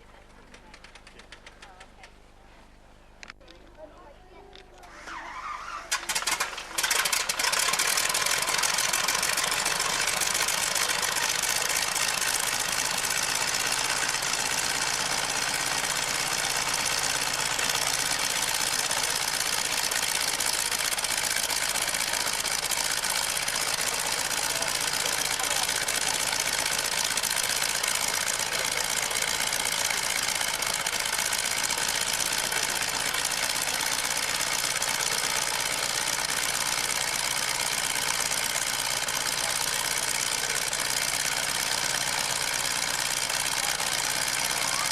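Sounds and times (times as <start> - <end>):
engine running steadily: 4.5 - 44.9.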